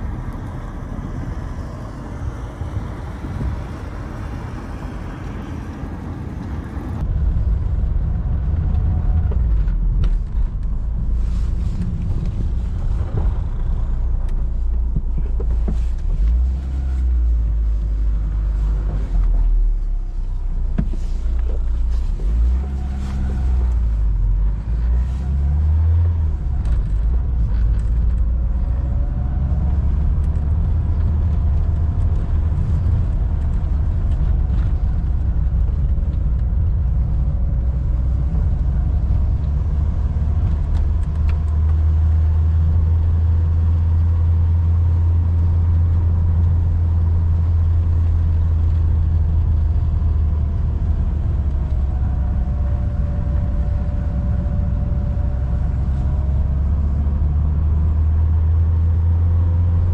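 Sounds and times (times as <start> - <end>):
car engine running: 0.0 - 59.9
low rumble: 0.0 - 59.9.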